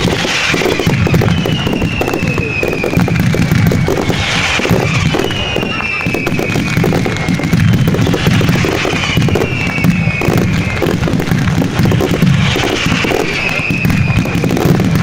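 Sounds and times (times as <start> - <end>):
fireworks bursts and crackle: 0.0 - 15.0
whistling fireworks falling in pitch: 0.0 - 15.0.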